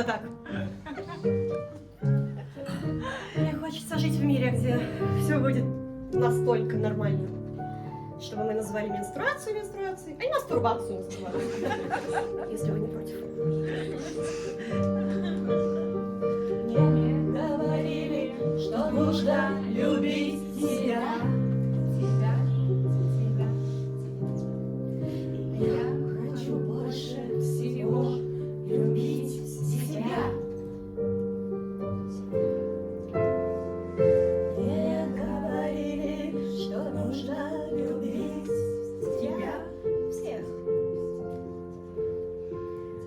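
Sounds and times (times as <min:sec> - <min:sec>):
piano playing slow chords: 0:00.0 - 0:43.0.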